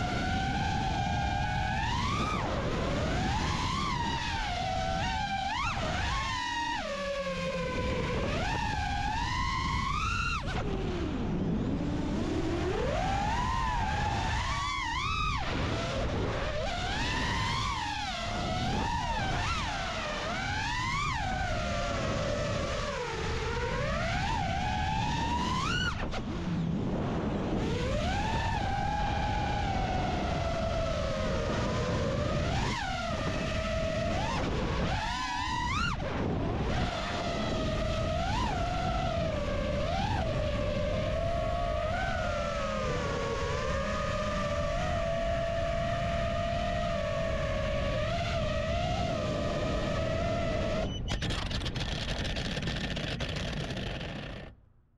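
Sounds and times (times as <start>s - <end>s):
drone motors whining: 0.0s - 54.5s.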